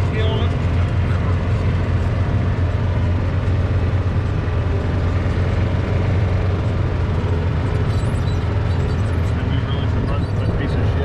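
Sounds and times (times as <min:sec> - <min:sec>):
small vehicle engine humming: 0:00.0 - 0:11.0.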